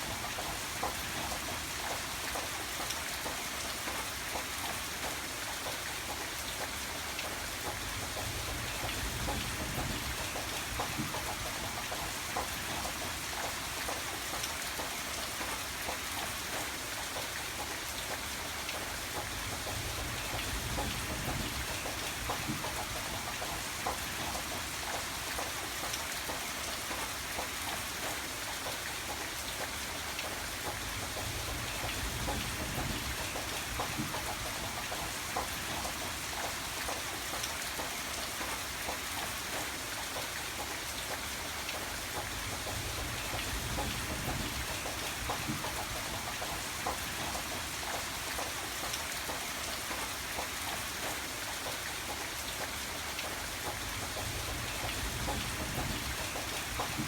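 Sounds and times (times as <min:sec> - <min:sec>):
rain drops tapping: 0:00.0 - 0:57.0.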